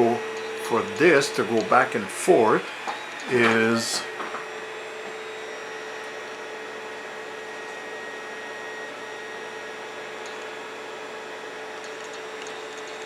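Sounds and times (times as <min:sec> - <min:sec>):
printer stepper motors humming: 0:00.0 - 0:13.0.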